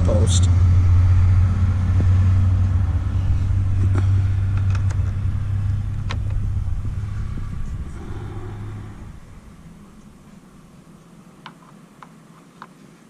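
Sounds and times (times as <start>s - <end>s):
motor vehicle rumbling: 0.0s - 11.4s.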